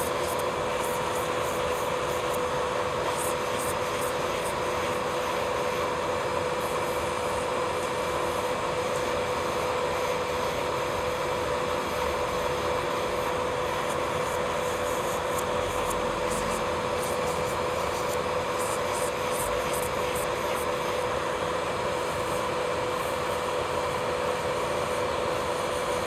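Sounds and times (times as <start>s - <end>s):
electric nail drill whining: 0.0s - 26.0s.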